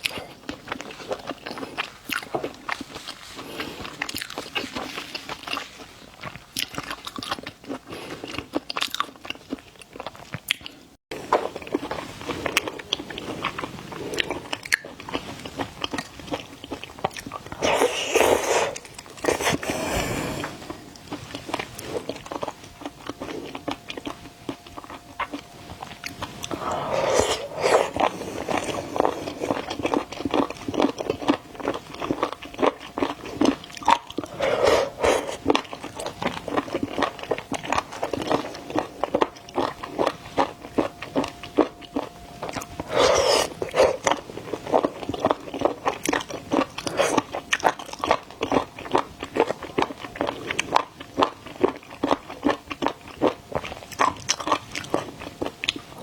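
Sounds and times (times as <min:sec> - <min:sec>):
crunchy shrimp chewing: 0:00.0 - 0:56.0.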